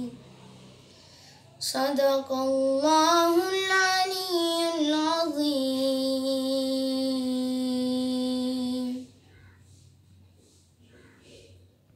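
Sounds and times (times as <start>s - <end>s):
boy chanting recitation: 0.0s - 9.9s.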